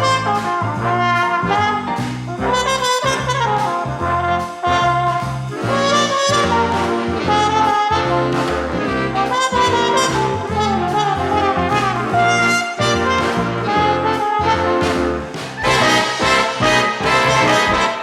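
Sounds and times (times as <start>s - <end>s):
upbeat brass music: 0.0s - 18.0s.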